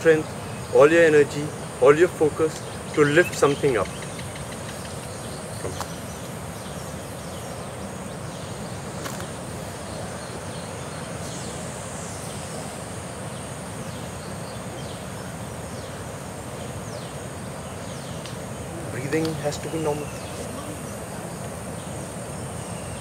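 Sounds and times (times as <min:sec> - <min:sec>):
bird calling: 0:00.0 - 0:12.7, 0:14.0 - 0:23.0
high-pitched insect drone: 0:00.0 - 0:23.0.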